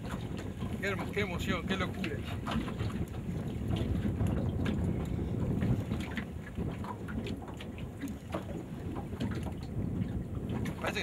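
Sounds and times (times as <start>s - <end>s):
water slapping against boat hull: 0.0s - 11.0s
wind buffeting microphone: 0.0s - 11.0s.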